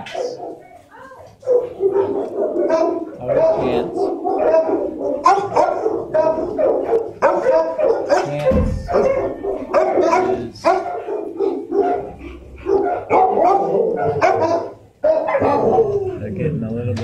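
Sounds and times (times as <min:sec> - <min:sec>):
dogs barking: 0:00.0 - 0:16.3.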